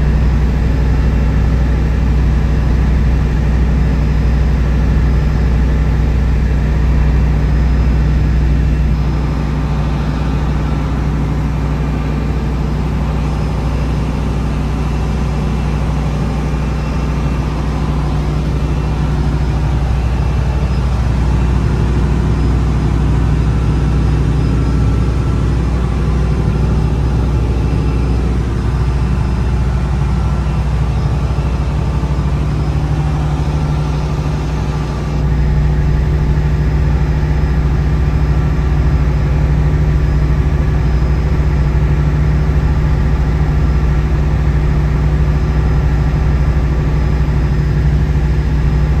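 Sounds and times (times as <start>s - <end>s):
boat engine running: 0.0s - 49.0s.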